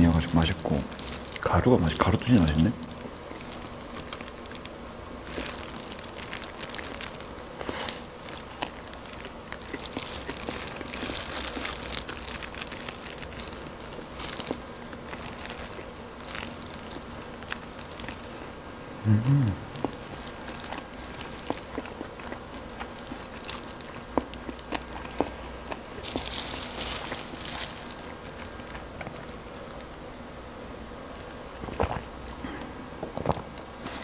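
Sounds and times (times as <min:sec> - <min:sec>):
plastic gloves crinkling: 0:00.0 - 0:18.7, 0:19.7 - 0:30.0, 0:31.1 - 0:34.0
biting and chewing: 0:00.0 - 0:18.8, 0:19.6 - 0:34.0.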